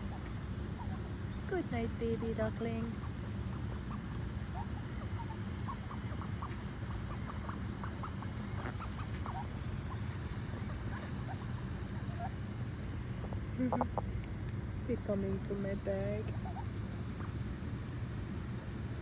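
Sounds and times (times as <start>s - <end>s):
ducklings peeping: 0.0s - 14.4s, 15.0s - 19.0s
low background rumble: 0.0s - 19.0s.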